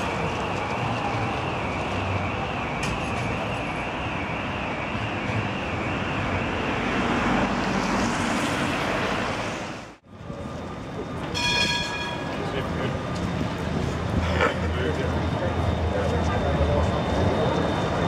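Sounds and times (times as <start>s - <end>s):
street noise: 0.0s - 18.0s
tram running on street track: 0.0s - 18.0s.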